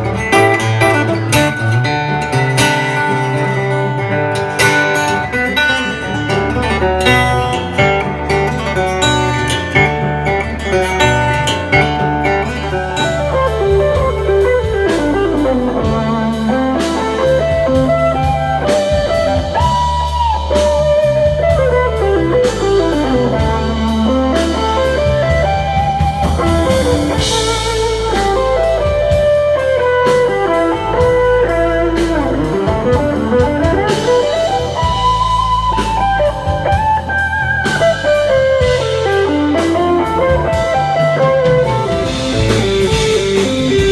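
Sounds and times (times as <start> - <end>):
bass guitar: 0.0 - 43.9
drum kit: 0.0 - 43.9
electric guitar lead runs: 0.0 - 43.9.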